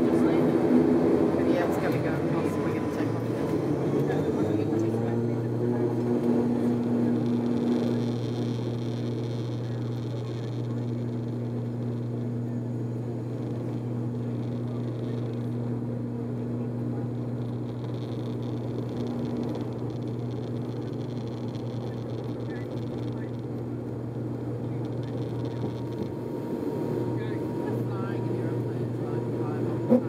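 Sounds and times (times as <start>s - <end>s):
turboprop engines droning: 0.0s - 30.0s.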